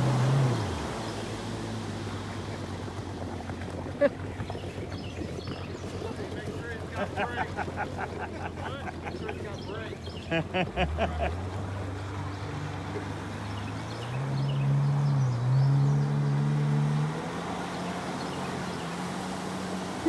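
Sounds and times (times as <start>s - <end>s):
jet ski engine revving: 0.0s - 20.0s.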